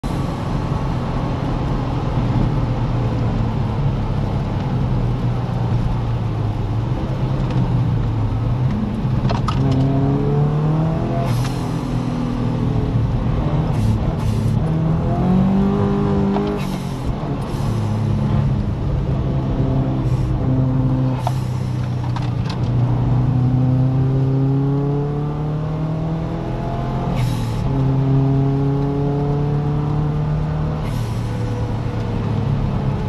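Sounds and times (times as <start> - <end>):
car engine at high speed: 0.0 - 33.0.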